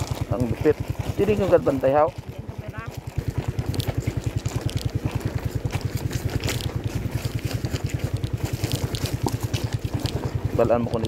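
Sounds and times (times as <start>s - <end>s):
small motorcycle engine running: 0.0s - 11.0s
tyres crackling on gravel: 0.0s - 11.0s.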